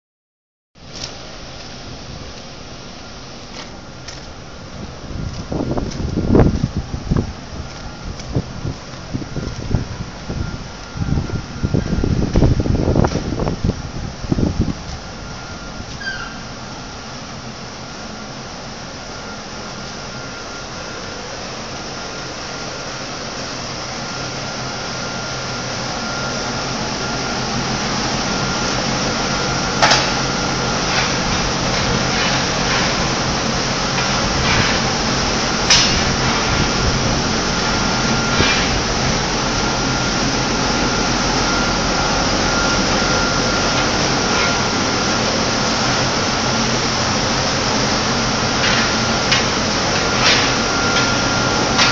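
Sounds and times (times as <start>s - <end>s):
machinery whirring: 0.9s - 51.9s.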